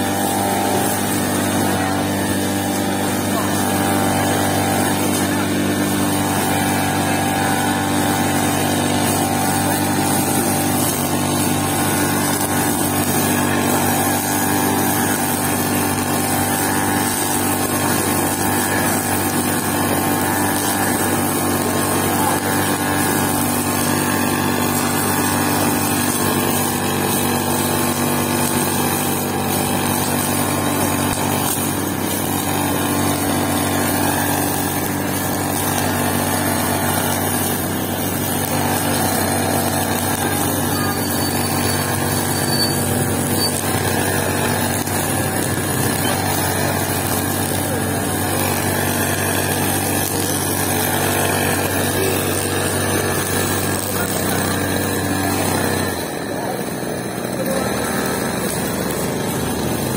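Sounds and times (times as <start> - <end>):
brush cutter engine cutting grass: 0.0 - 59.9.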